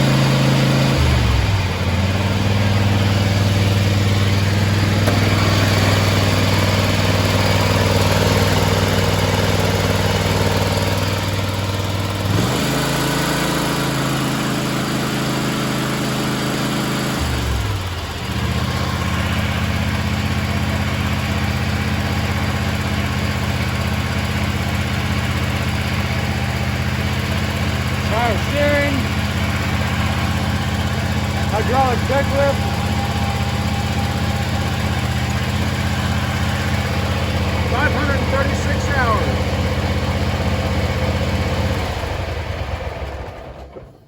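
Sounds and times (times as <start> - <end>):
garden tractor engine running: 0.0 - 44.0.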